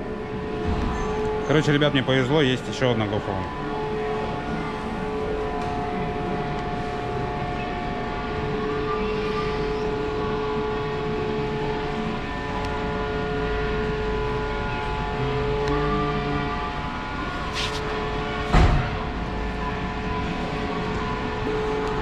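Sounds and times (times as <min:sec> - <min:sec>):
steady machine drone: 0:00.0 - 0:22.0.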